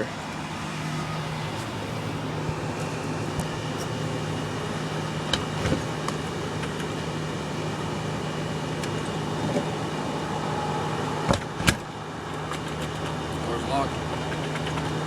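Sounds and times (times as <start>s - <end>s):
background hum with low drone: 0.0s - 15.0s.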